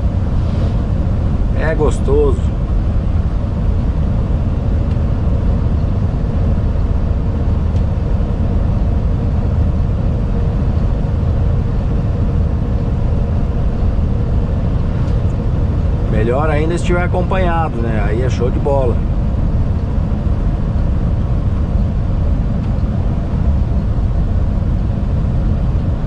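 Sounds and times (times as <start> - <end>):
faint constant hum: 0.0 - 26.0
road noise: 0.0 - 26.0
truck engine drone: 0.0 - 26.0.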